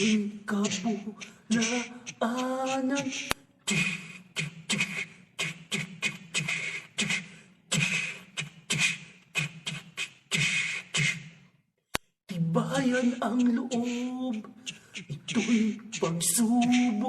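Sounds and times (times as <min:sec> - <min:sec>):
beatboxing: 0:00.0 - 0:11.6, 0:12.3 - 0:17.0.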